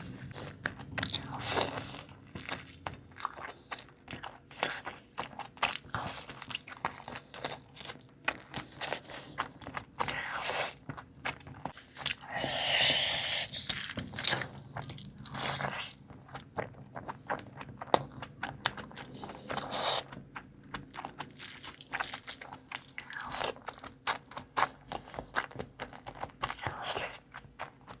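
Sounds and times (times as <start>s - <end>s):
crunching and chewing crisp food: 0.0s - 28.0s.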